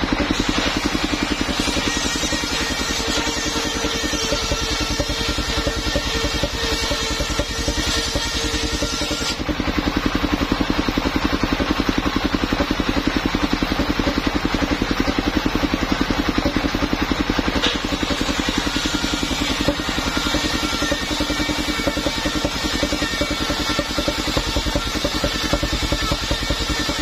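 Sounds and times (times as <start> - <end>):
saw blade spinning: 0.0 - 27.0
sawmill engine running: 0.0 - 27.0.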